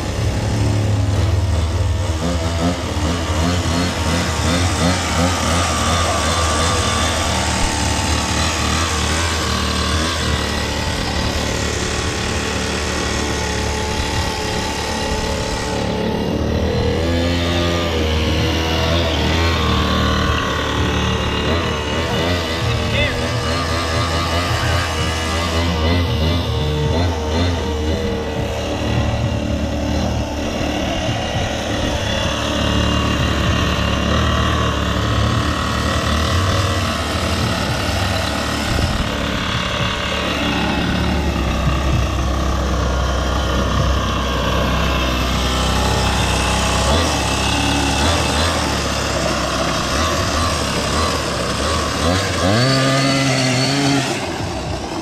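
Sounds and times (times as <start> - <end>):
small gas engine running: 0.0 - 55.0.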